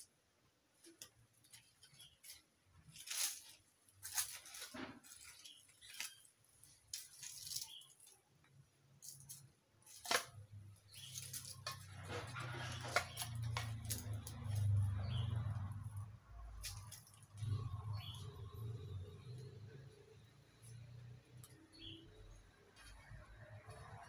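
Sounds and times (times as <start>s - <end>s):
rustles and scrapes of debris: 0.7s - 24.0s.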